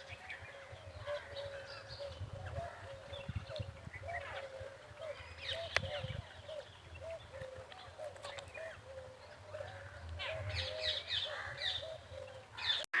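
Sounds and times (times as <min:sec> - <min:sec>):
birds high chirps: 0:00.0 - 0:13.0
birds low calls: 0:00.0 - 0:13.0.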